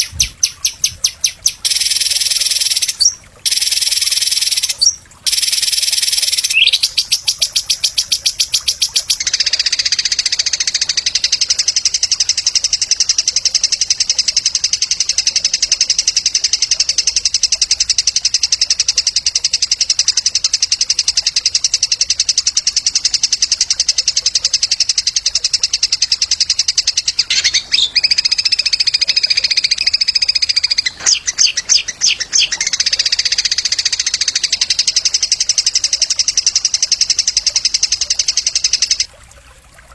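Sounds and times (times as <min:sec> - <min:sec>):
songbird rapid high trill: 0:00.0 - 0:39.1.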